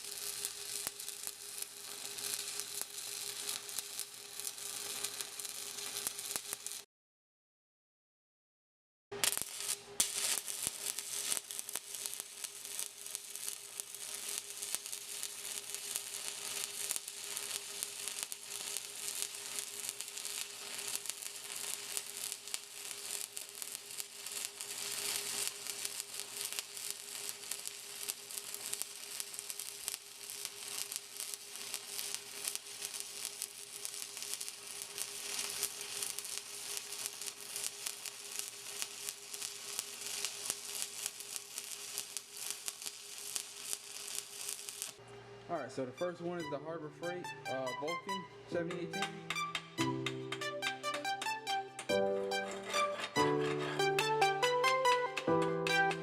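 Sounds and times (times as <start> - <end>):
welding arc crackling: 0.0 - 6.9, 9.1 - 45.0, 48.6 - 56.0.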